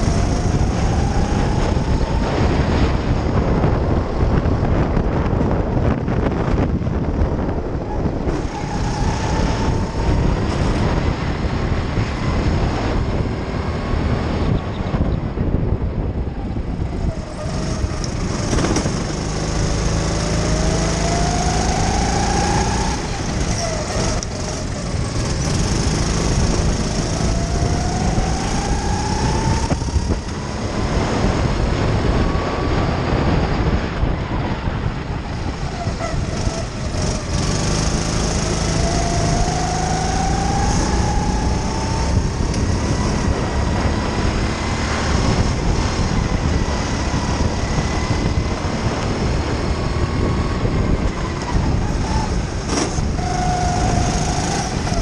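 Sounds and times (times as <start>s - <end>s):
kart engine accelerating: 0.0s - 55.0s
wind and road noise: 0.0s - 55.0s.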